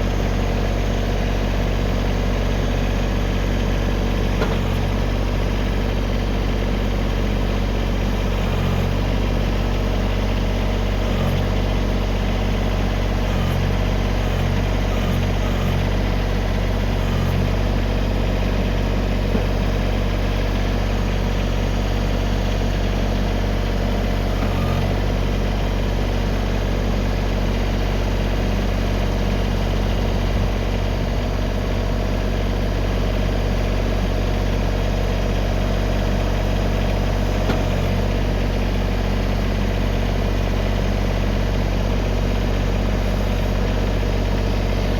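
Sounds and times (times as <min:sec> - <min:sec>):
tractor engine idling: 0:00.0 - 0:44.9.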